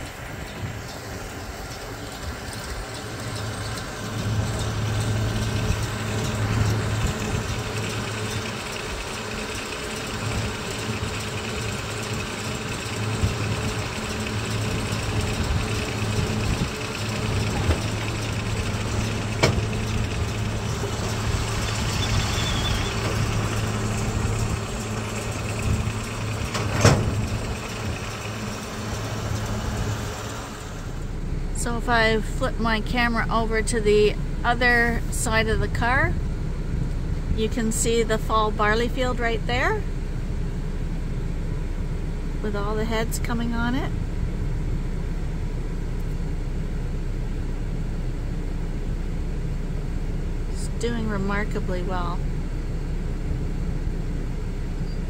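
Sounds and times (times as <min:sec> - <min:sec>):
baler machinery running: 0:00.0 - 0:55.0
tractor engine drone: 0:00.0 - 0:55.0.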